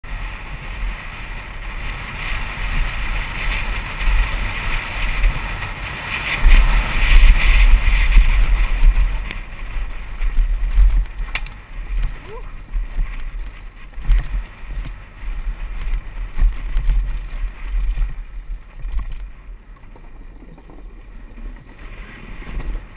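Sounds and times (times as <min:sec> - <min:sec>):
tyres rolling over gravel trail: 0:00.0 - 0:22.9
wind buffeting microphone: 0:00.0 - 0:22.9.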